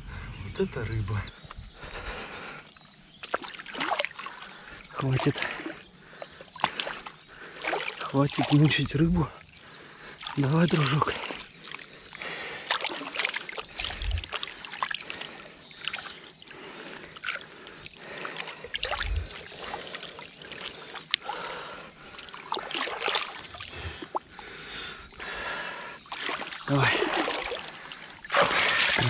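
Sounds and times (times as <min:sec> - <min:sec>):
river water splashing and trickling: 0:00.6 - 0:29.0.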